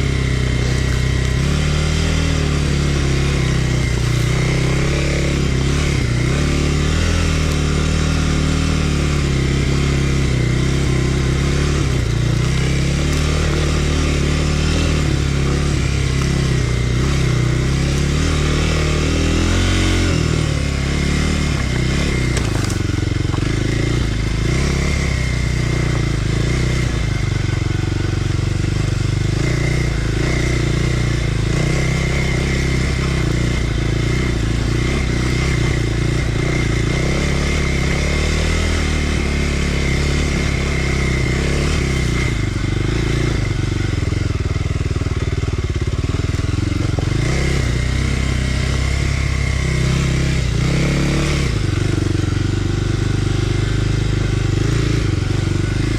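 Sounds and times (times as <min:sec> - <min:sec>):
dirt bike engine running: 0:00.0 - 0:55.9.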